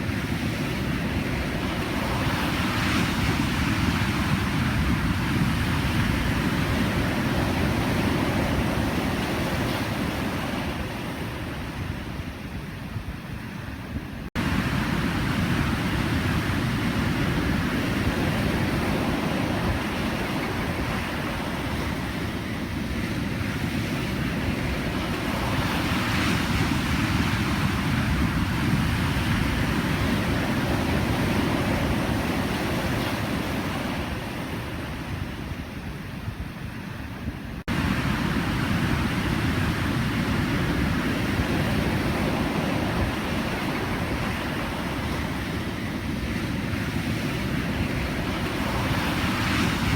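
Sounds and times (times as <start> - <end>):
ocean waves breaking: 0.0 - 49.9.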